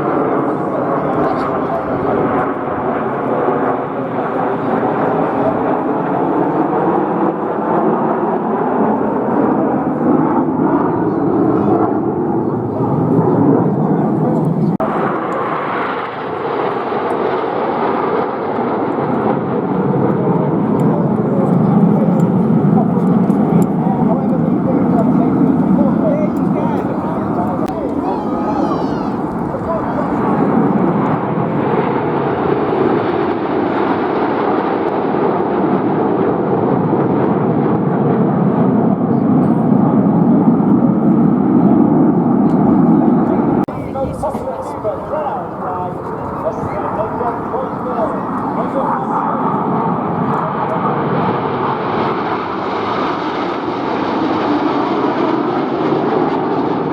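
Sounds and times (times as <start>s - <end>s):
aircraft flying over: 0.0s - 56.9s.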